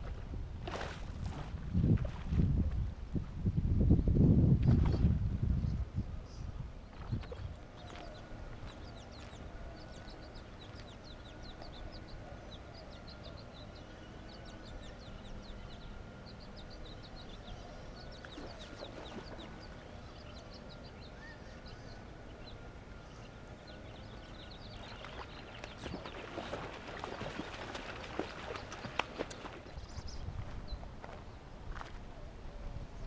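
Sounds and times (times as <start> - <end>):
birds chirping: 5.6 - 33.0.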